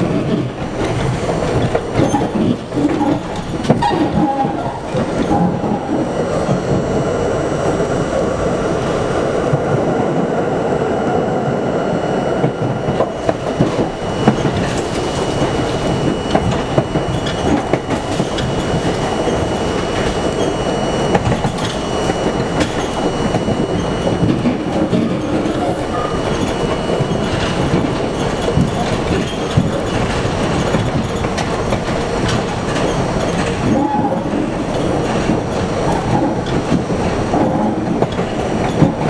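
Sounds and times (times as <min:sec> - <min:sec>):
train wheels rumbling and clicking: 0:00.0 - 0:39.0.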